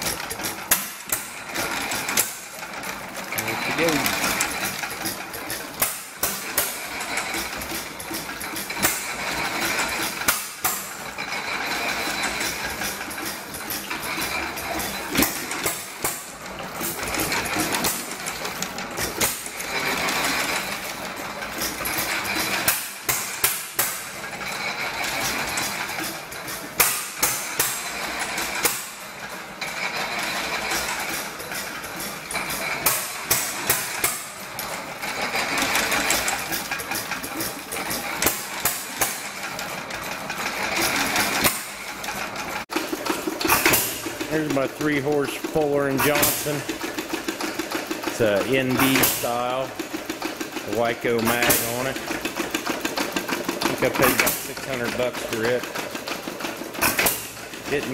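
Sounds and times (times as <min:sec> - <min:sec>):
hit-and-miss engine knocking: 0:00.0 - 0:57.9
water pump rush: 0:00.0 - 0:57.9.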